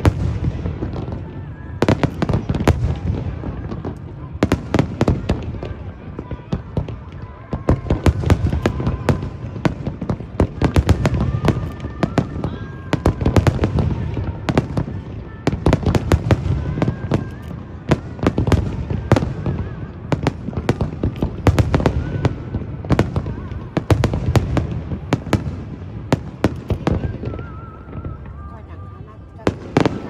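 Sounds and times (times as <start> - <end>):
fireworks booming and cracking: 0.0 - 30.0.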